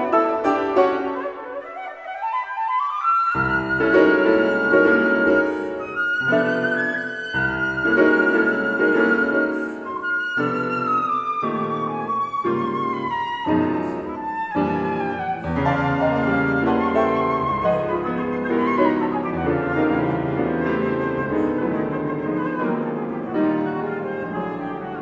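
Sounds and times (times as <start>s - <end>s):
flute melody: 0.0s - 25.0s
piano chords: 0.0s - 25.0s.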